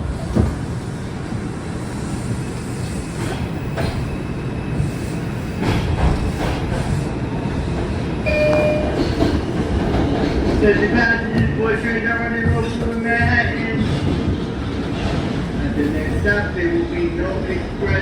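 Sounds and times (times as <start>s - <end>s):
subway car rumble: 0.0s - 18.0s.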